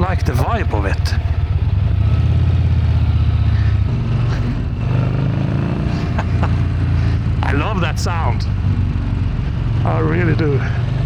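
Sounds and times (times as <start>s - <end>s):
motorcycle engine pulsing exhaust: 0.0s - 11.0s.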